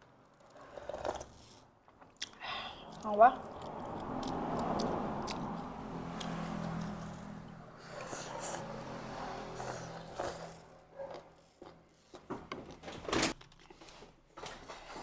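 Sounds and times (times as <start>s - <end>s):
chewing and slurping: 0.4s - 12.8s.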